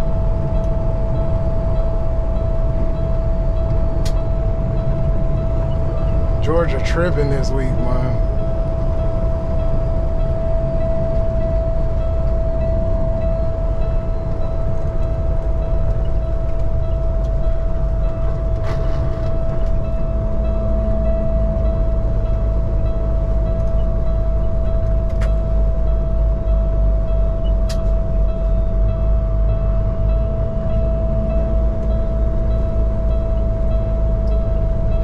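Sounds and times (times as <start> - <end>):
high whine: 0.0 - 35.0
truck engine and road drone: 0.0 - 35.0.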